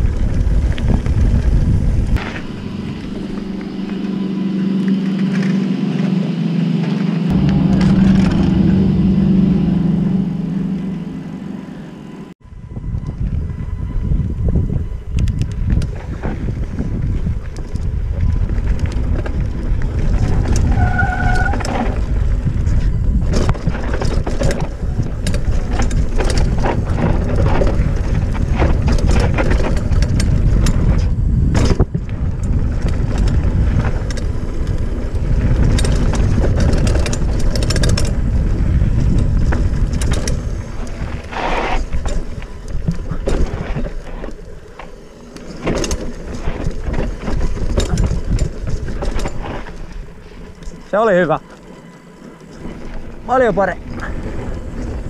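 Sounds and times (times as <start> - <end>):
wind buffeting microphone: 0.0 - 6.2, 7.2 - 55.0
bike rattling over bumps: 0.0 - 11.6, 13.2 - 55.0
tyres on dirt trail: 0.0 - 55.0.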